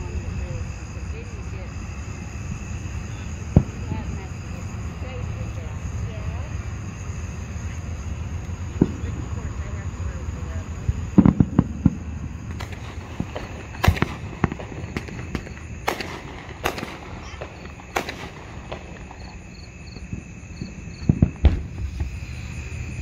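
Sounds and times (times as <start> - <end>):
fireworks bangs and cracks: 0.0 - 23.0
heavy fireworks booms: 0.0 - 23.0.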